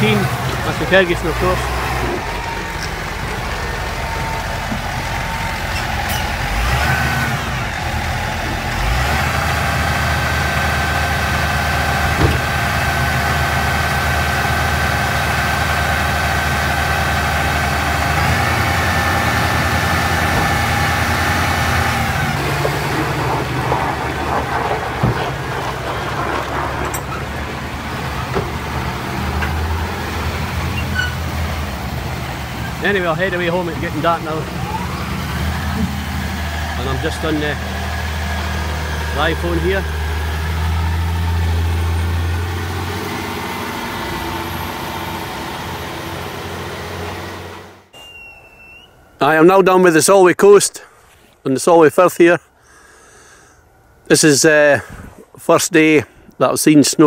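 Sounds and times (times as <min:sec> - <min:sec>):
engine clatter: 0:00.0 - 0:47.9
tractor diesel engine revving: 0:00.0 - 0:50.5.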